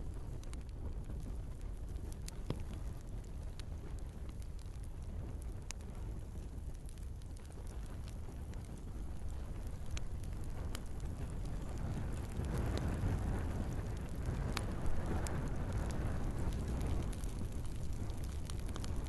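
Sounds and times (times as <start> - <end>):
fire crackling and popping: 0.0 - 19.0
fire flames rushing: 0.0 - 19.0.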